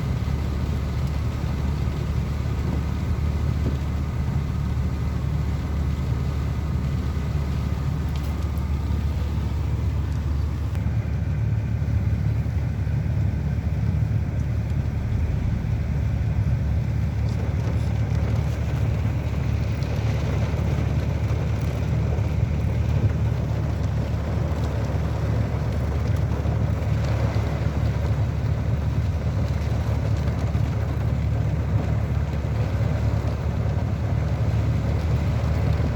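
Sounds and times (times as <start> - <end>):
rain: 0.0 - 35.9
wind: 0.0 - 35.9.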